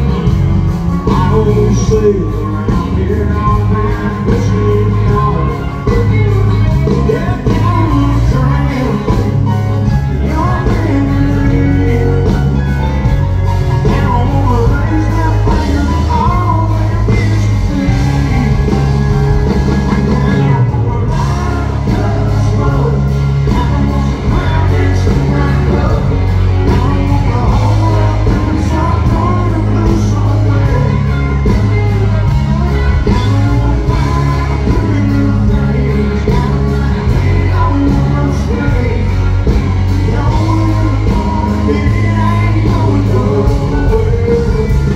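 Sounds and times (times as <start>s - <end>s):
heavy bass: 0.0s - 44.9s
live country band playing: 0.0s - 44.9s
man singing: 0.0s - 44.9s.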